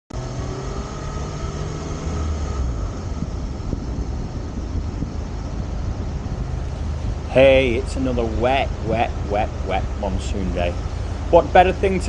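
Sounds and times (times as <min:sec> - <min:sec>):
vehicle rumble on the move: 0:00.1 - 0:12.0
faint steady tone: 0:00.2 - 0:12.0.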